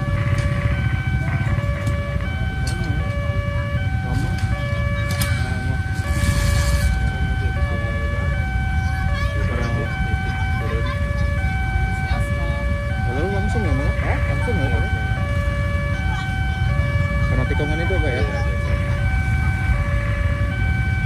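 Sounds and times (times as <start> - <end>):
motorbike engines rumbling: 0.0 - 21.0
two-tone warning siren: 0.0 - 21.0.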